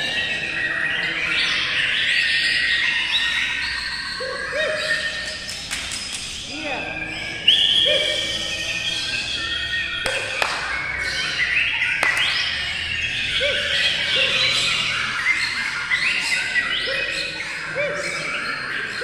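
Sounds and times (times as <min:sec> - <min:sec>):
songbirds chirping and warbling: 0:00.0 - 0:19.0.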